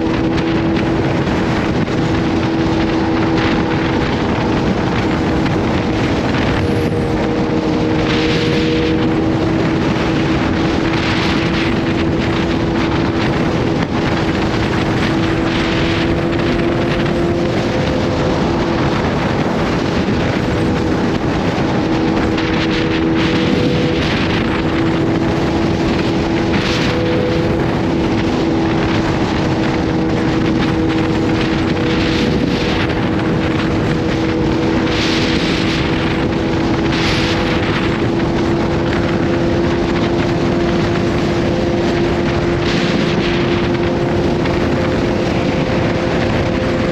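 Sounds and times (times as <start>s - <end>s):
motorcycle engine running: 0.0s - 46.9s
wind rushing over microphone: 0.0s - 46.9s.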